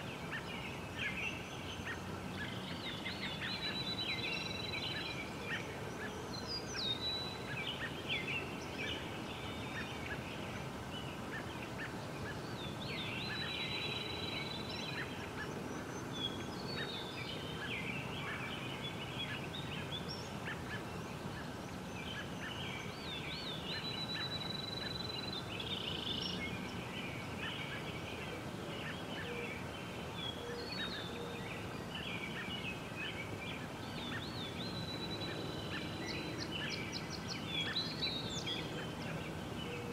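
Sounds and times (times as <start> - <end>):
low background noise: 0.0 - 39.9
songbirds chirping and trilling: 0.0 - 39.9.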